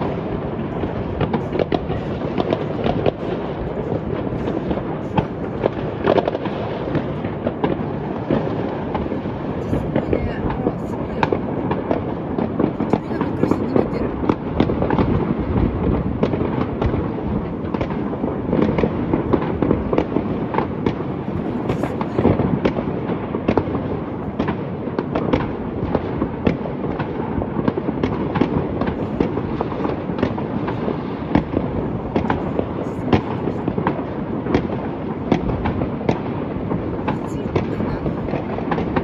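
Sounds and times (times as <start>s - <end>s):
distant fireworks rumble: 0.0s - 39.0s
firecracker sharp cracks: 0.0s - 39.0s.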